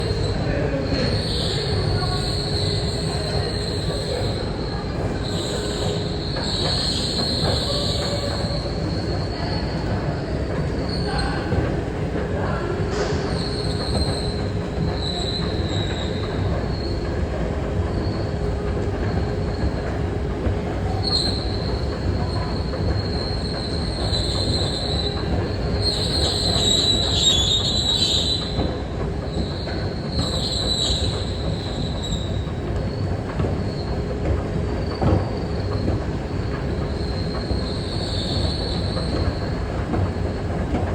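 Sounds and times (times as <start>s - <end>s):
escalator squealing: 0.0s - 11.7s, 12.4s - 19.9s, 20.8s - 34.1s, 34.8s - 40.6s
escalator mechanical hum: 0.0s - 40.9s.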